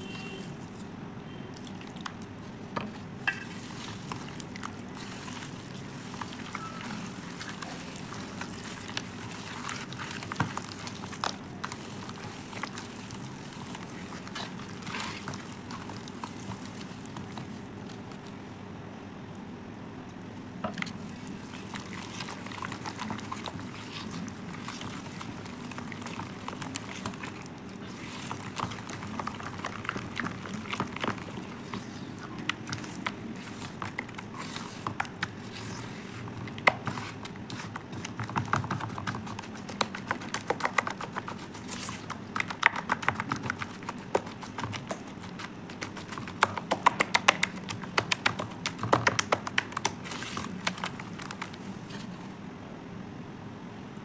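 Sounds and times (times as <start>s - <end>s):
hands squelching wet paste: 1.5s - 18.4s, 20.7s - 52.2s.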